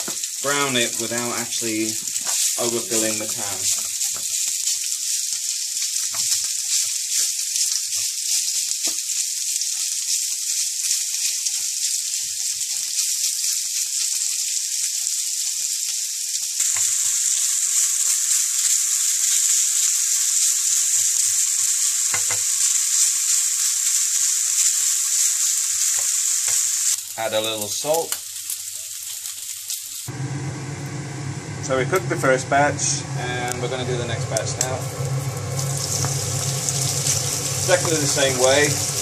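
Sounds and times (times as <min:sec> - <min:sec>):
meat sizzling in a frying pan: 0:00.0 - 0:31.3, 0:32.0 - 0:39.0.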